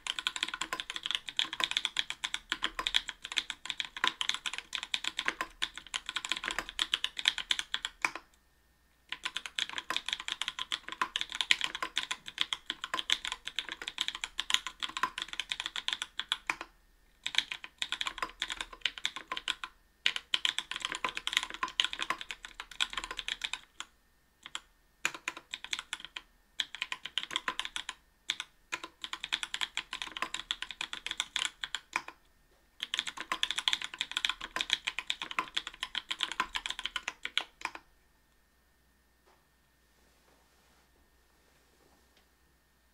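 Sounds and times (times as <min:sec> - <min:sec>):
typing on mechanical keyboard: 0:00.0 - 0:08.3, 0:09.1 - 0:32.2, 0:32.8 - 0:37.8.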